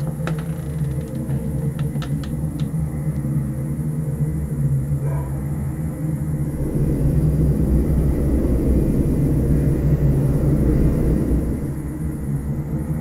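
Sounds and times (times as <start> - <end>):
deep hum: 0.0 - 13.0
low rumbling drone: 0.0 - 13.0.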